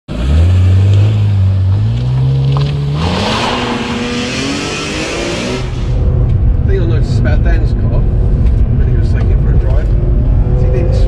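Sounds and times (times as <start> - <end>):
car engine accelerating: 0.1 - 11.0
road and exhaust noise: 0.1 - 11.0.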